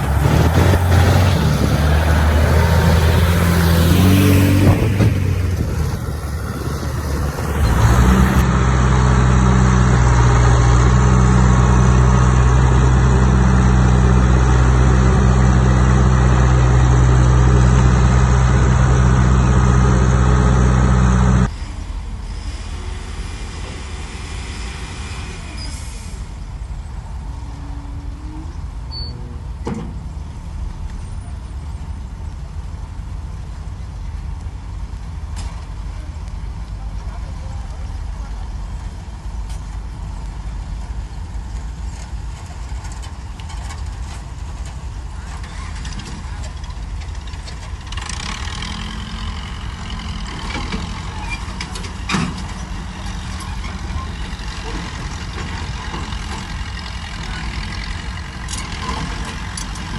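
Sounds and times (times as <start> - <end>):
diesel engine running: 0.0 - 21.5, 25.2 - 59.9.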